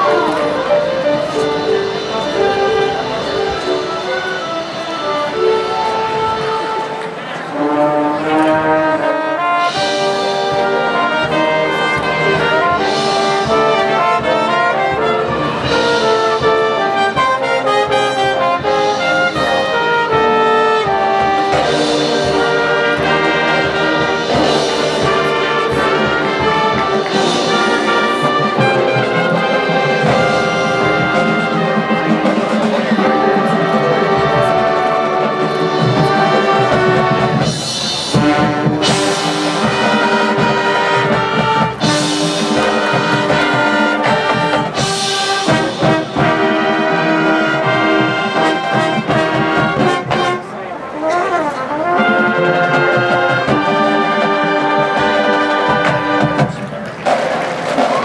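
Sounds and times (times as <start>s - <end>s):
marching band playing: 0.0s - 58.0s.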